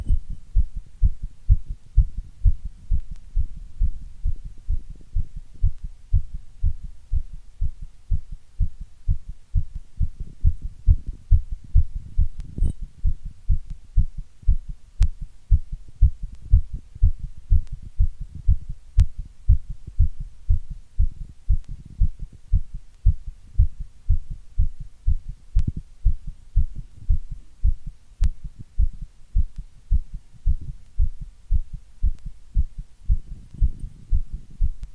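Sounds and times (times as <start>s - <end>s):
deep heartbeat: 0.0s - 34.9s.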